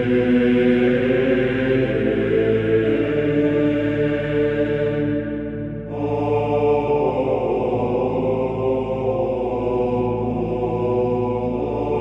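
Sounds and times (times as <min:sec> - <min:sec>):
choir chanting sustained notes: 0:00.0 - 0:12.0.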